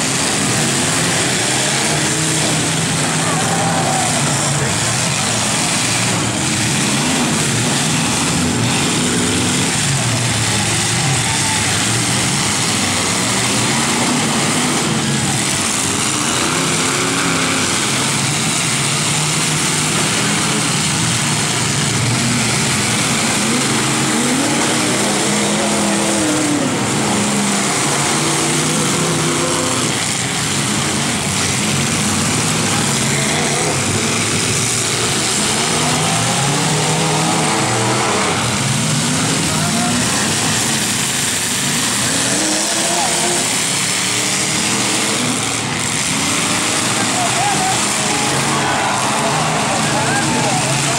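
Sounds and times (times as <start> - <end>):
truck engines revving: 0.0 - 50.9.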